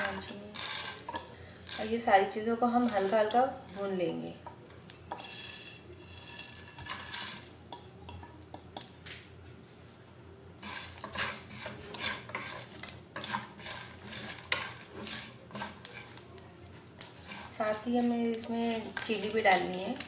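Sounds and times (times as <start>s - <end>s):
wooden spatula scraping pan: 0.0s - 4.5s, 5.1s - 8.4s, 10.6s - 16.2s, 17.0s - 20.0s
spices rattling into pan: 0.0s - 9.0s, 10.6s - 16.2s, 17.0s - 20.0s.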